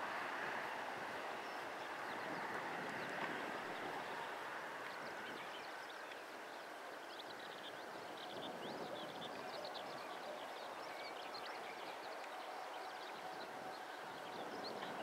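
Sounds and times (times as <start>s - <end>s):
distant jet engines rushing: 0.0s - 15.0s
small birds chirping: 1.4s - 15.0s.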